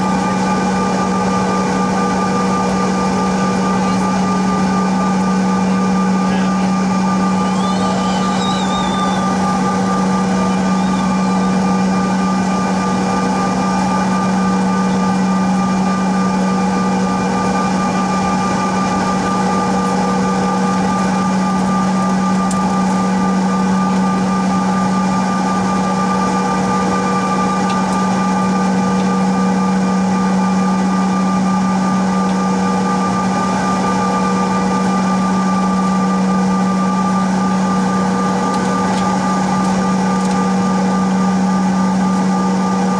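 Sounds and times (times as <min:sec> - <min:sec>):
jet engines low hum: 0:00.0 - 0:42.9
steady whining tones: 0:00.0 - 0:42.9.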